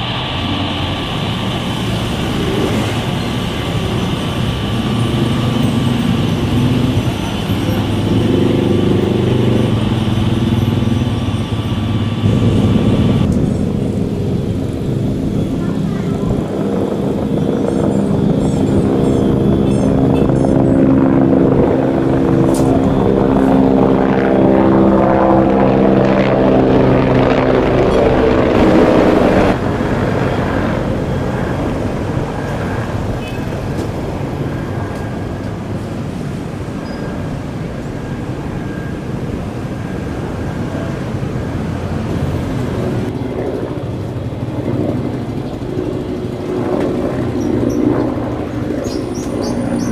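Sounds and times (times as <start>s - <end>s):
helicopter drone flying past: 0.0s - 49.9s.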